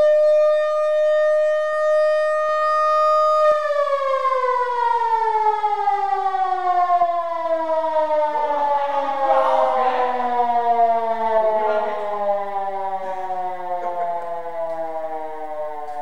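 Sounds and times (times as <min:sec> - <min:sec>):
electric motor siren wailing: 0:00.0 - 0:16.0.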